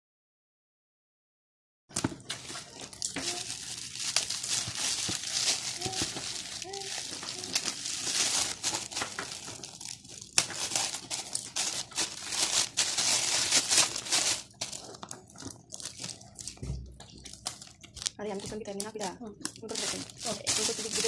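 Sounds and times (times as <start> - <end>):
foil gift wrap crinkling and tearing: 2.0 - 21.0.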